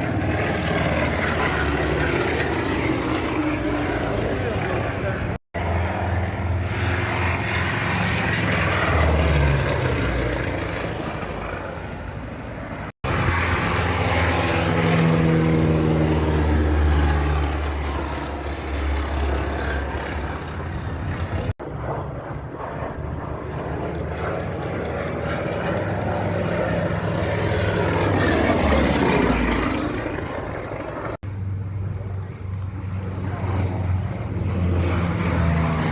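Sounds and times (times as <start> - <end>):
propeller plane passing by: 0.0 - 35.9.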